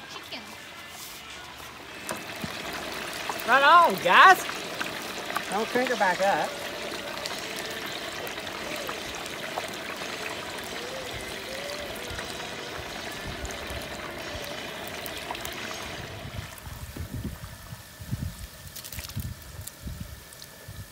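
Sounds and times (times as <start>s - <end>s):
oil bubbling and sizzling: 1.5s - 20.9s.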